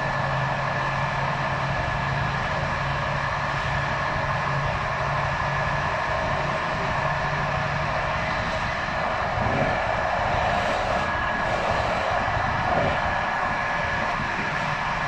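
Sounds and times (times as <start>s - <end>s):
constant high whine: 0.0s - 15.0s
train wheels rumbling on rails: 0.0s - 15.0s.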